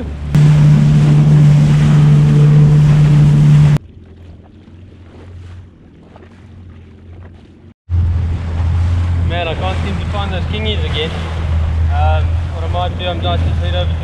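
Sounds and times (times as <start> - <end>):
jet ski engine running: 0.0 - 14.0
low hum: 0.0 - 14.0.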